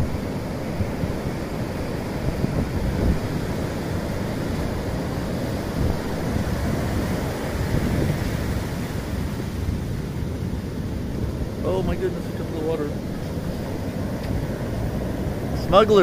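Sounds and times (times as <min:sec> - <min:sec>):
ocean surf washing onto beach: 0:00.0 - 0:16.0
wind rumbling on microphone: 0:00.0 - 0:16.0.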